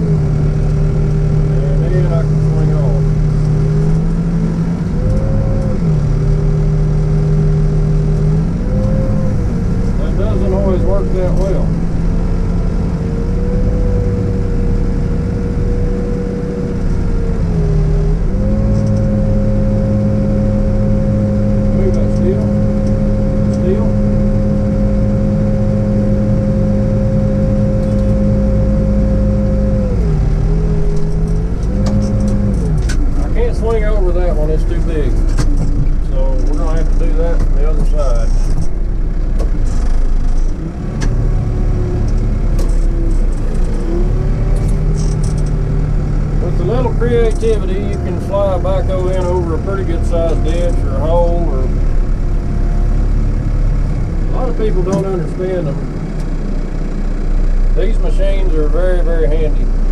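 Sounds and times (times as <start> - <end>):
diesel engine running: 0.0 - 59.9
rising high whine: 0.0 - 59.9.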